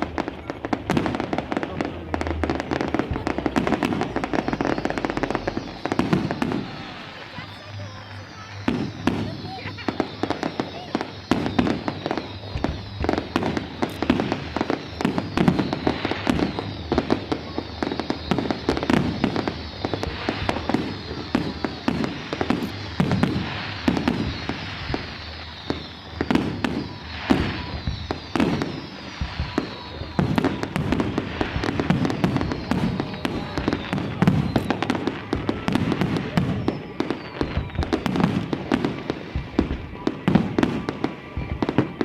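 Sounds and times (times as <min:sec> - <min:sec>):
fireworks bangs and crackles: 0:00.0 - 0:42.0
heavy firework booms: 0:00.0 - 0:42.0.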